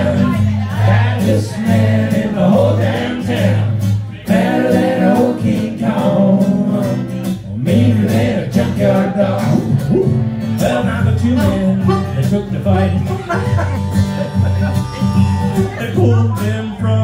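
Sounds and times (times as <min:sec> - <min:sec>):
country band playing: 0:00.0 - 0:17.0.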